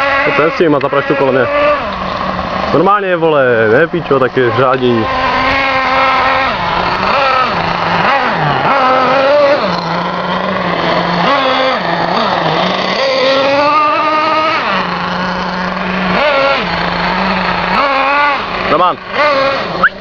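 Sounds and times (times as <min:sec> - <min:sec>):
moped engine revving: 0:00.0 - 0:20.0.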